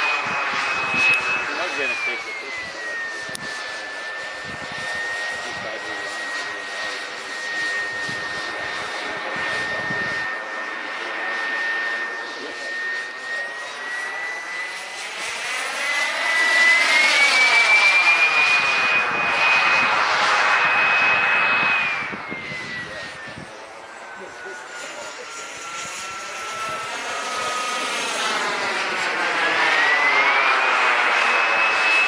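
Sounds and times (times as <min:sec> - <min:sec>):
model jet engine whining: 0:00.0 - 0:32.0.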